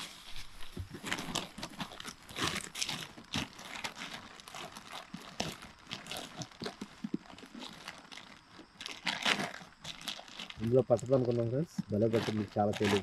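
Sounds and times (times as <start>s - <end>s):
tent fabric rustling: 0.0s - 13.0s.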